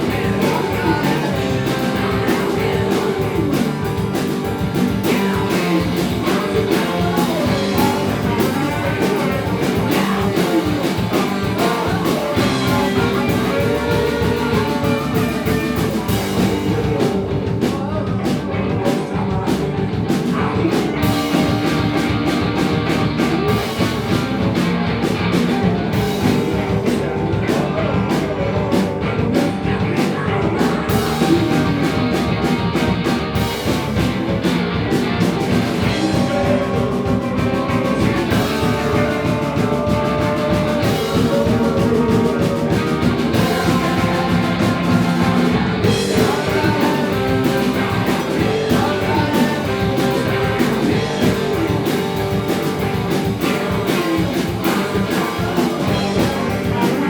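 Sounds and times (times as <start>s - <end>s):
person singing: 0.0s - 24.6s, 25.5s - 57.0s
bass guitar: 0.0s - 57.0s
drums: 0.0s - 57.0s
electric guitar: 0.0s - 57.0s.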